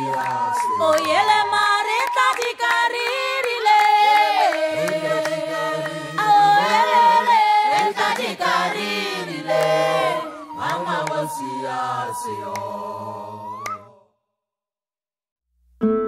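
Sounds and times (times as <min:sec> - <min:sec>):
choir singing a cappella: 0:00.0 - 0:14.1.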